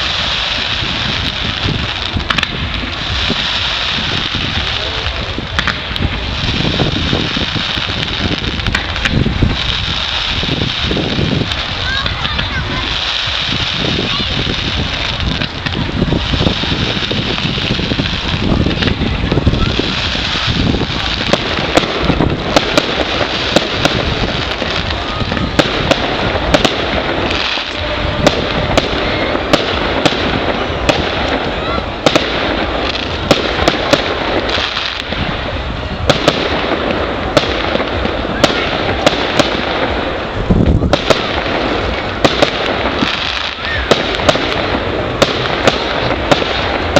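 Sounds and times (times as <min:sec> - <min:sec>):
fireworks crackling and rumbling: 0:00.0 - 0:46.9
sharp firework bangs: 0:00.0 - 0:46.9
steady hiss: 0:00.0 - 0:46.9
wind buffeting microphone: 0:00.0 - 0:46.9.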